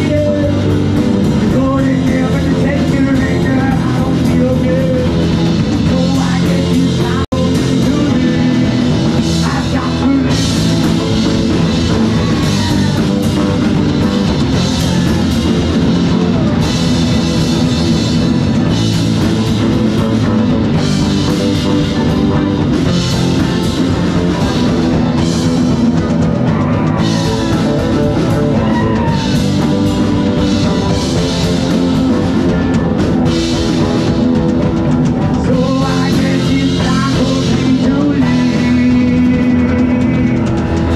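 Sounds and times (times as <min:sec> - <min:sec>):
bass guitar: 0:00.0 - 0:40.9
drum kit: 0:00.0 - 0:40.9
electric and acoustic guitars: 0:00.0 - 0:40.9.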